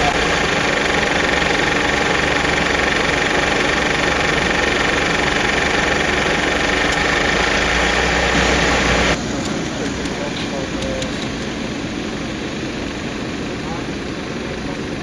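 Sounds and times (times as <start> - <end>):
high hum: 0.0 - 15.0
vehicle engine idling: 0.0 - 15.0.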